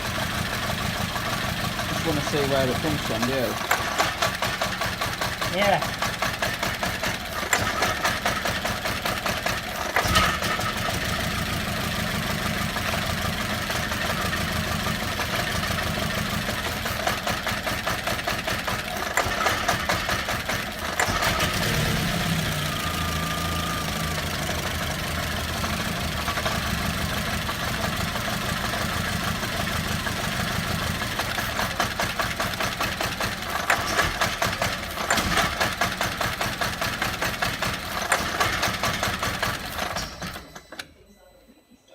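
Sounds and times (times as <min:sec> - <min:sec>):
car engine misfiring: 0:00.0 - 0:41.0.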